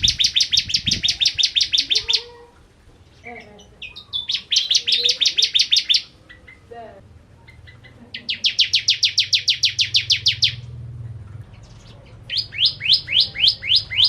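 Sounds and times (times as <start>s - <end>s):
bird chirping rapidly: 0.0s - 2.3s, 3.2s - 6.7s, 7.4s - 10.8s, 11.4s - 14.0s.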